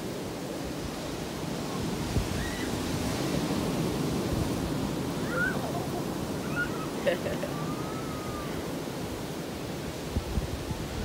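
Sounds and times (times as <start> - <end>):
surf breaking on beach: 0.0 - 11.0
wind on microphone: 0.1 - 11.0.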